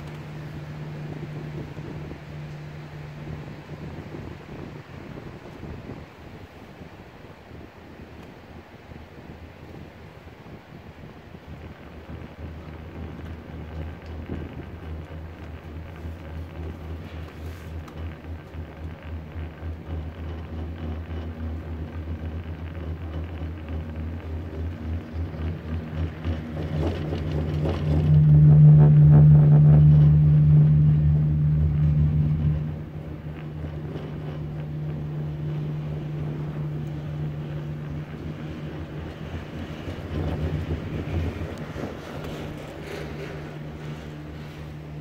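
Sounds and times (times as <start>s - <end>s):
gondola lift humming: 0.0s - 45.0s
wind on microphone: 0.0s - 45.0s.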